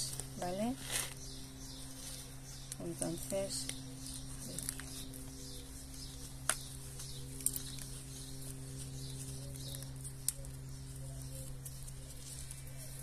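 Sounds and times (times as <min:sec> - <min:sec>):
hands crumbling potting soil: 0:00.0 - 0:13.0
steady low hum: 0:00.0 - 0:13.0.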